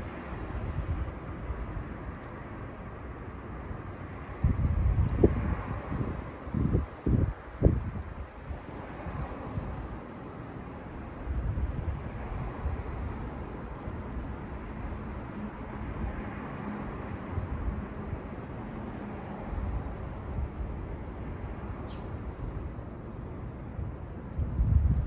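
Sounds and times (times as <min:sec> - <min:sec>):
steady low rumble: 0:00.0 - 0:25.0
wind gusting on microphone: 0:00.0 - 0:25.0.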